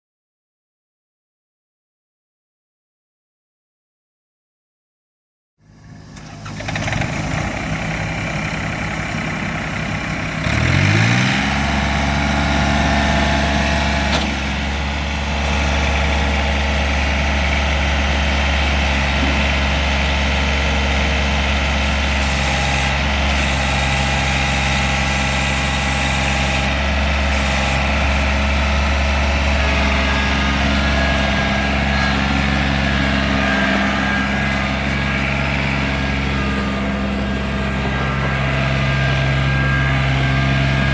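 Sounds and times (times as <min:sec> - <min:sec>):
tractor diesel engine revving: 0:05.7 - 0:40.9.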